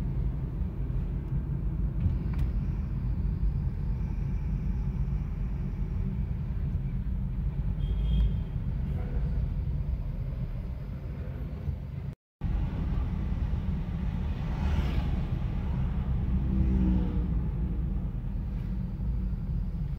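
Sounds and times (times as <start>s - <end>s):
car engine rumble: 0.0s - 19.9s
passing traffic: 0.0s - 19.9s
road noise inside car: 0.0s - 19.9s.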